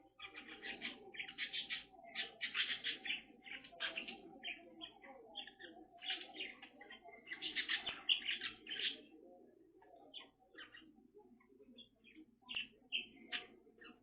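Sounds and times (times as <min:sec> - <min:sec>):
bird chirping and chattering: 0:00.1 - 0:09.1, 0:11.7 - 0:14.0.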